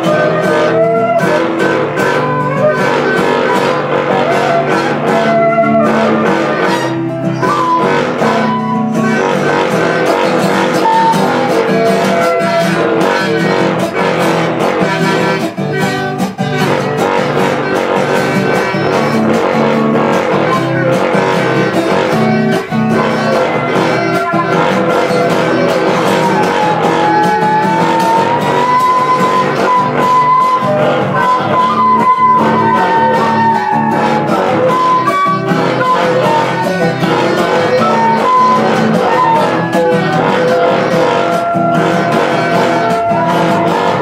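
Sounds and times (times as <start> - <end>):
acoustic guitar strumming: 0.0 - 44.0
pipe blown like a didgeridoo: 0.0 - 44.0
wooden flutes: 0.0 - 44.0.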